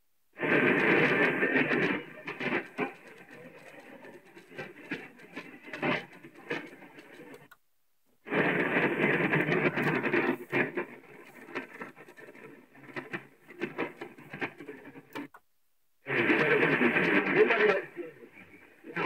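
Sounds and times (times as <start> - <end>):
radio static with crackles: 0.0 - 15.4, 16.0 - 19.0
radio station broadcast: 0.4 - 7.6, 8.3 - 15.3, 16.0 - 19.0.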